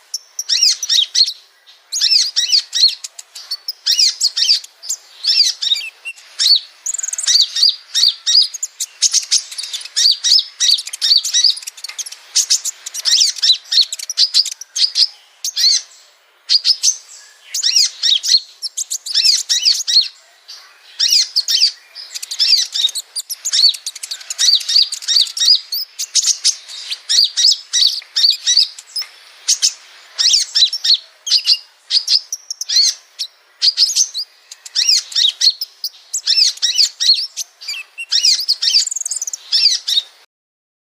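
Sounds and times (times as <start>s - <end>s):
small songbirds chirping: 0.0s - 40.3s.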